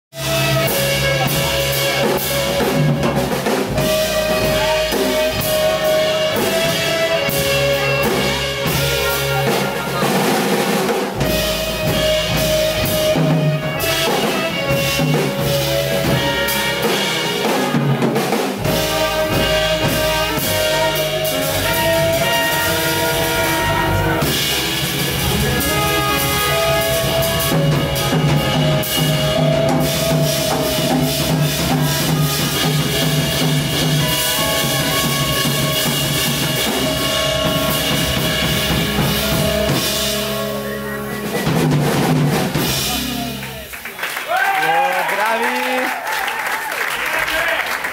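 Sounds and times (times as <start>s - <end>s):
saxophone: 0.1s - 43.8s
double bass: 0.1s - 44.0s
trumpet: 0.1s - 46.2s
drum kit: 0.1s - 47.9s
guitar: 0.2s - 43.8s
hammond organ: 0.2s - 43.8s.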